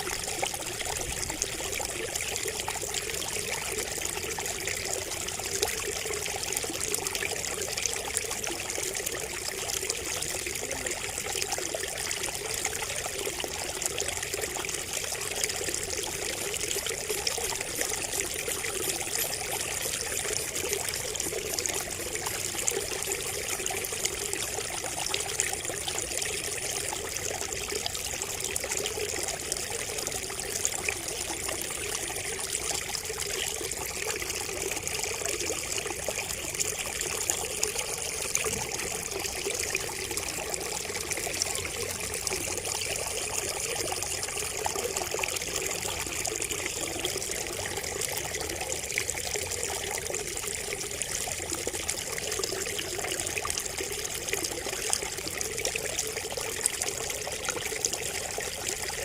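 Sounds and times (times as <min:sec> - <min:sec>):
water trickling from a spout: 0:00.0 - 0:59.0.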